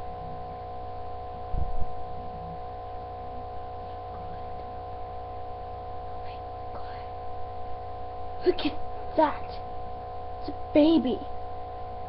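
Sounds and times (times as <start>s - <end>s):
hum of held tones: 0.0s - 12.0s.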